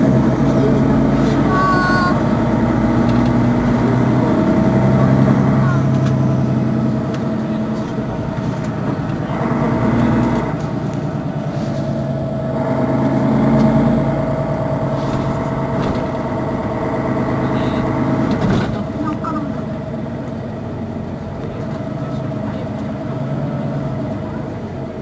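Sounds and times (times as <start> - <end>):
bus engine idling: 0.0 - 25.0.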